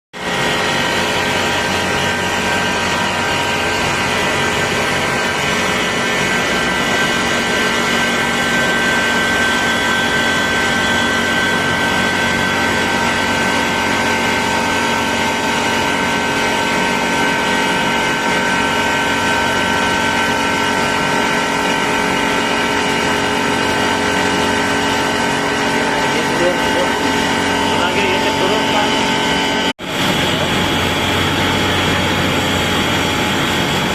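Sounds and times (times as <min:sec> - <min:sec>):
chiller machine running: 0:00.2 - 0:33.9
steady whining tones: 0:00.2 - 0:33.9.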